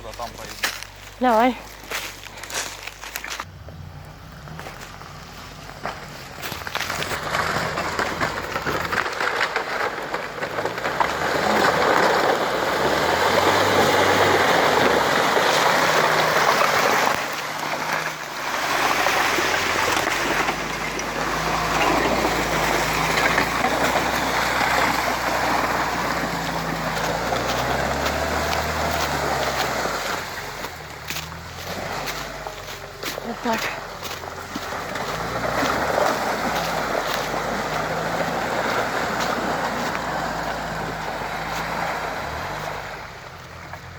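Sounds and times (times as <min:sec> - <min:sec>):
low engine hum: 0:00.0 - 0:43.9
vehicle splashing on wet track: 0:04.4 - 0:43.9.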